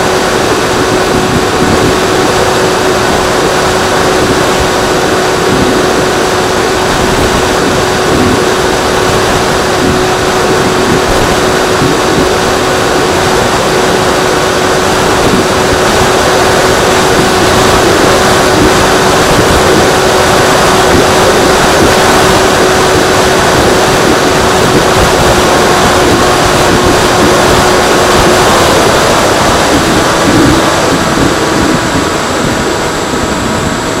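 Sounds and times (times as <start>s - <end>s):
electric motor and propeller humming: 0.0s - 34.0s
heavy wind rush on microphone: 0.0s - 34.0s.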